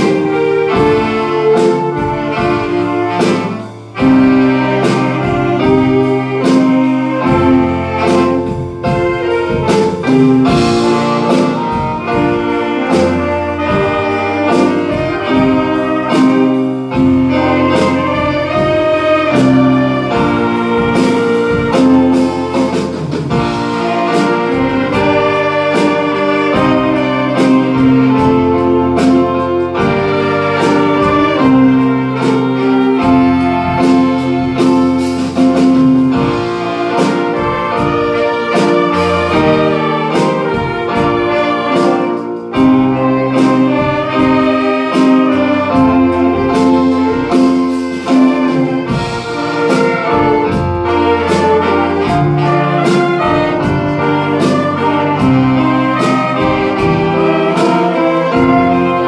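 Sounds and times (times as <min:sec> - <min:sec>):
saxophone ensemble playing: 0:00.0 - 0:59.0
steady beat: 0:00.0 - 0:59.0.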